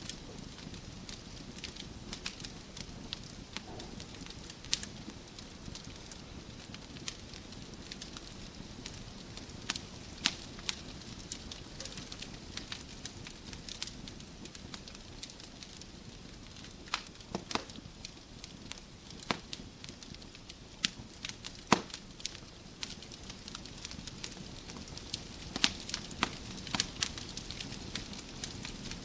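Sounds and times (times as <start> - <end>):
burning logs popping: 0.0 - 29.0
low rumble of flames: 0.0 - 29.0
wood fire crackling: 0.0 - 29.0.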